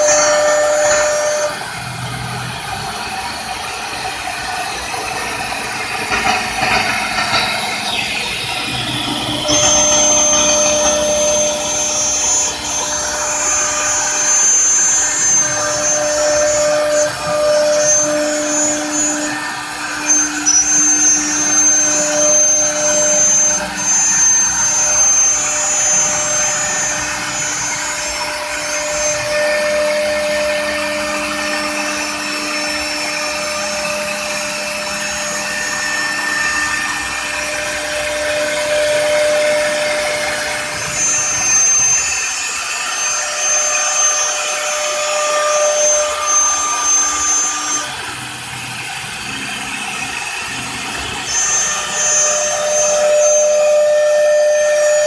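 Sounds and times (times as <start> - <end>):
router spindle whine: 0.0 - 55.0
rushing noise of wood cutting: 0.0 - 55.0.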